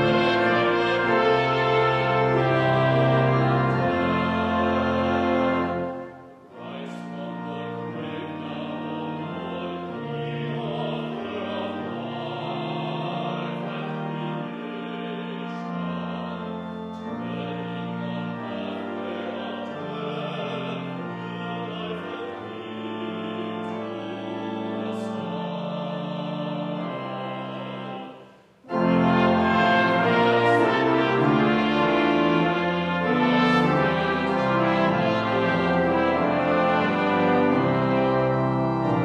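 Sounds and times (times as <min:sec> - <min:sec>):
choir singing a hymn: 0:00.0 - 0:39.0
pipe organ: 0:00.0 - 0:39.0.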